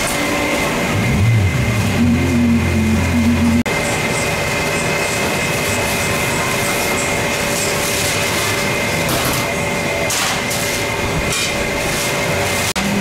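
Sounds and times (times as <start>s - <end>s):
mechanical din with hum: 0.0s - 13.0s.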